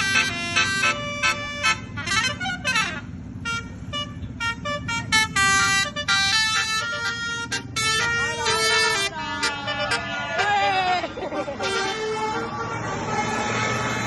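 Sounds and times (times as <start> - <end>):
musical bus horn tune: 0.0 - 14.0
steady low rumble: 0.0 - 14.0.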